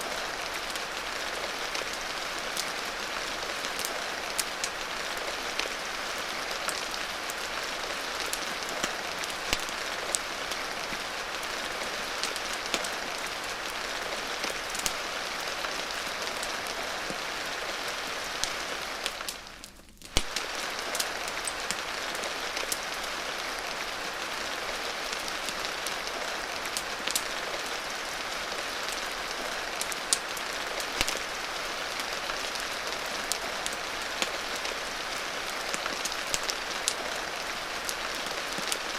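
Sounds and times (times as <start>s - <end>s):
rain hiss: 0.0s - 38.9s
wood fire crackling: 0.0s - 38.9s.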